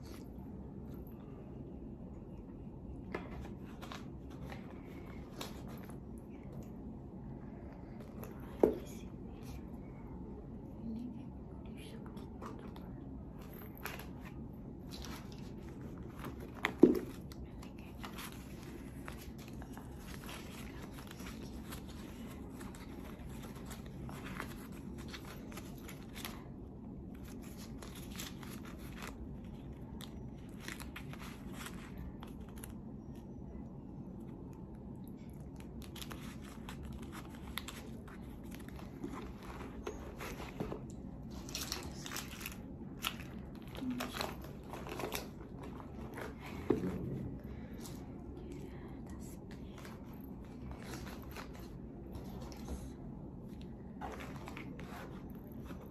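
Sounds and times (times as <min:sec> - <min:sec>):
soft rustling of cards: 0:00.0 - 0:55.9
steady low hum: 0:00.0 - 0:55.9.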